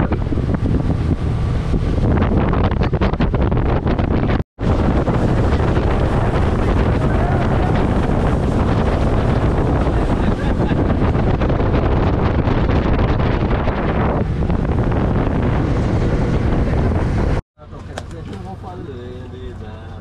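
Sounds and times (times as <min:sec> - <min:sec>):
strong wind buffeting microphone: 0:00.0 - 0:17.4.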